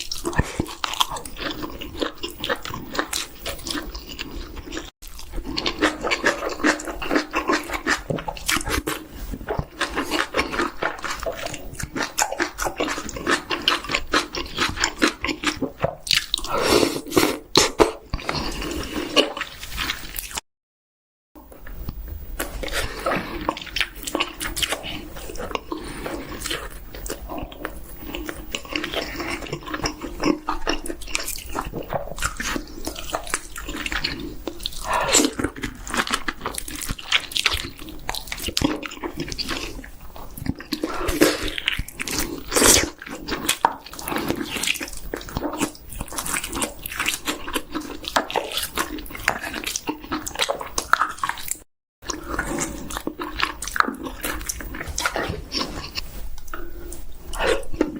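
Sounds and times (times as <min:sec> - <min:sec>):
person chewing food: 0:00.0 - 0:20.4, 0:21.4 - 0:57.9.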